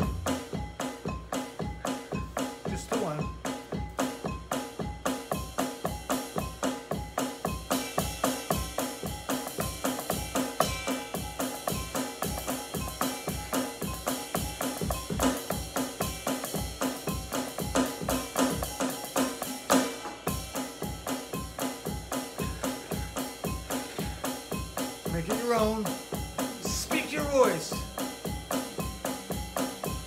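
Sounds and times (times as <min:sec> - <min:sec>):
electronic drum kit groove: 0:00.0 - 0:30.0.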